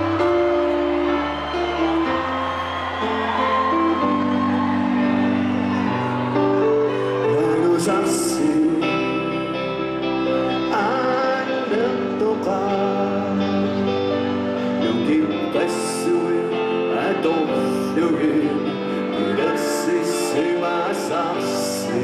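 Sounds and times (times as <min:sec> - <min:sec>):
bass guitar: 0:00.0 - 0:20.4
electric guitar: 0:00.0 - 0:22.0
person singing: 0:00.0 - 0:22.0.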